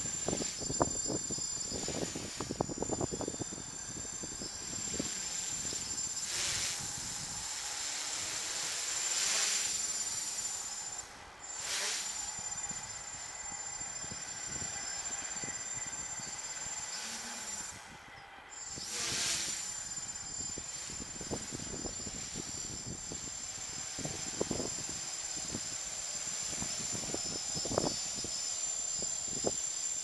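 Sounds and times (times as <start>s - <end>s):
quadcopter propellers buzzing: 0.0s - 30.0s.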